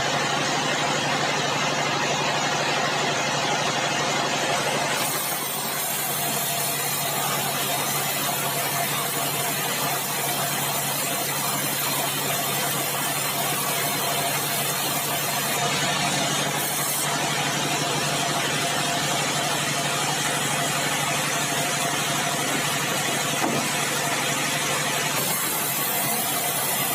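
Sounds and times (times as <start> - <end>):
band saw humming: 4.4 - 26.9.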